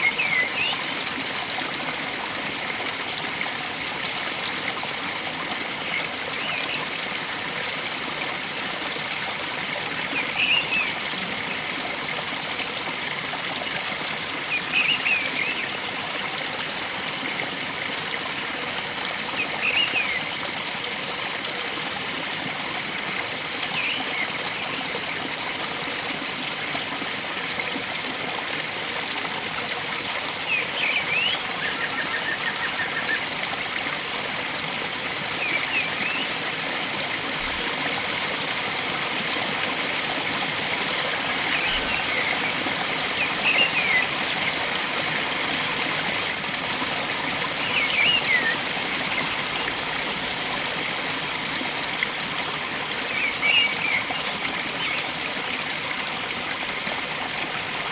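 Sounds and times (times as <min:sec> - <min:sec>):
flowing water rushing: 0:00.0 - 0:57.9.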